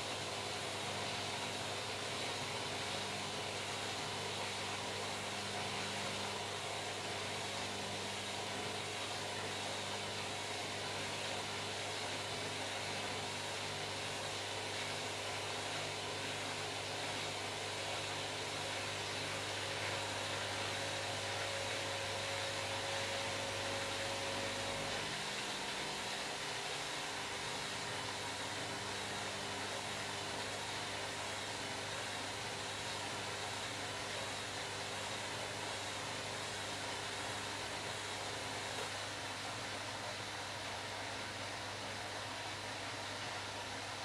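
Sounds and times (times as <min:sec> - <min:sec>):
washing machine whirring hum: 0:00.0 - 0:44.0.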